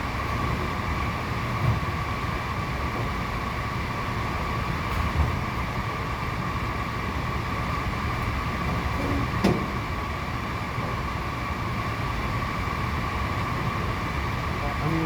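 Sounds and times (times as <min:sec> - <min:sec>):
oven fan whine and rumble: 0:00.0 - 0:15.0.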